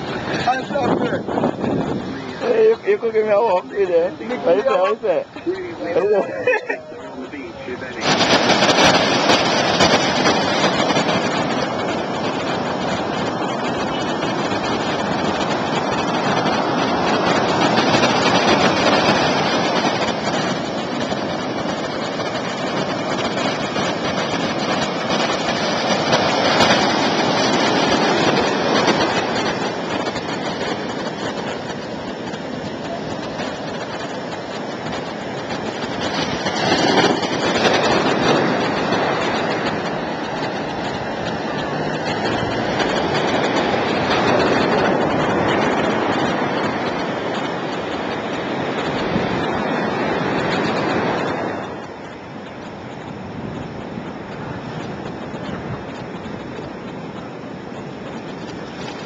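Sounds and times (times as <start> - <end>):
rough storm surf: 0.0 - 59.0
wind rushing: 0.0 - 59.0.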